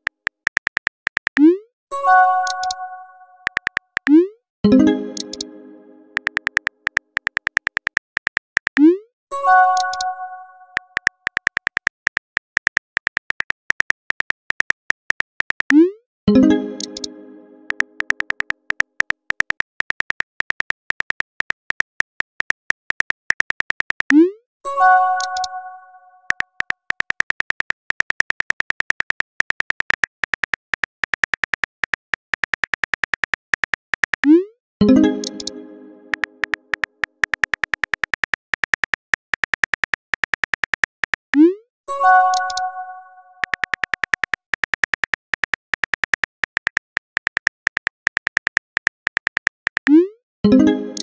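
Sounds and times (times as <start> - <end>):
phone keyboard typing clicks: 0.0 - 1.6, 2.4 - 2.8, 3.4 - 4.2, 4.8 - 9.0, 9.6 - 24.2, 25.1 - 25.6, 26.2 - 41.5, 42.2 - 42.8, 43.4 - 50.0, 50.6 - 51.0.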